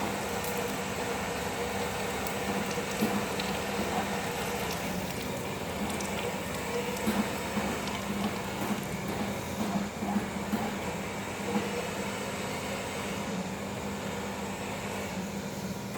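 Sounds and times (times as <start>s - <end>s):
furnace steady hum: 0.0s - 15.9s.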